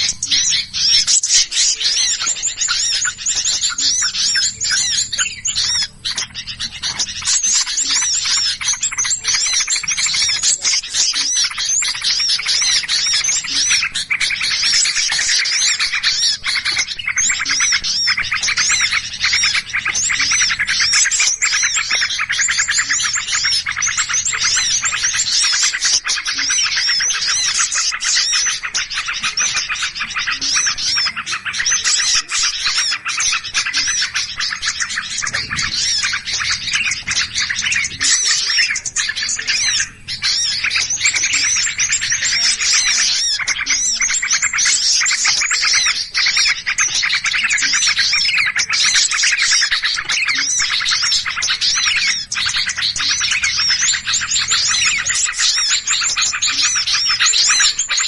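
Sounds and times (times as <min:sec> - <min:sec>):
chorus of small birds chirping: 0:00.0 - 0:58.0.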